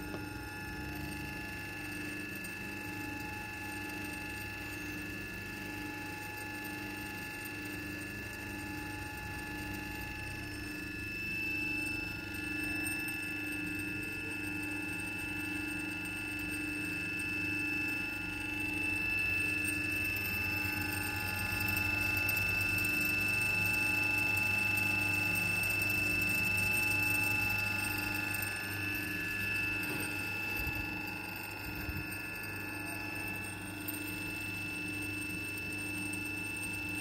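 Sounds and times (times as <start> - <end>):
electric motor humming and whining: 0.0 - 37.0.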